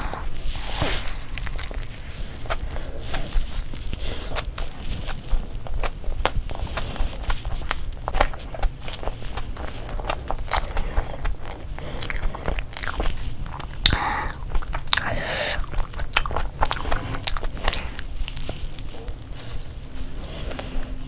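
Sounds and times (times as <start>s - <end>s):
wet chewing and mouth smacks: 0.0s - 21.0s.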